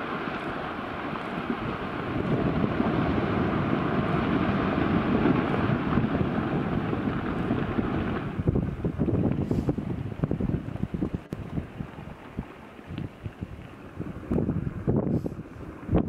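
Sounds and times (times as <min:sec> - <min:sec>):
rumble of tumbling rock and ice: 0:00.0 - 0:16.0
wind buffeting microphone: 0:00.0 - 0:16.0.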